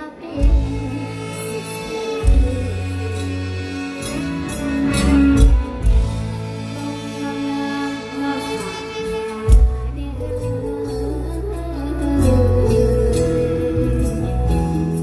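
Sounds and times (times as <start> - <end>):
girl singing through microphone: 0.0 - 4.1, 5.0 - 15.0
band playing: 0.0 - 15.0.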